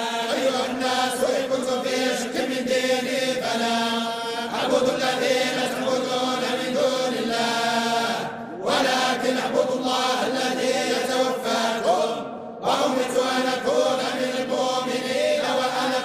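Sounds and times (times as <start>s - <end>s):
men reciting in unison: 0.0s - 16.0s.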